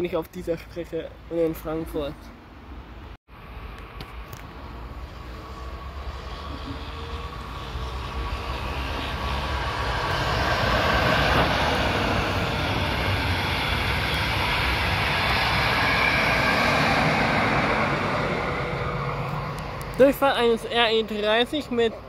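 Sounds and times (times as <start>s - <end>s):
train passing at speed: 2.6s - 22.0s.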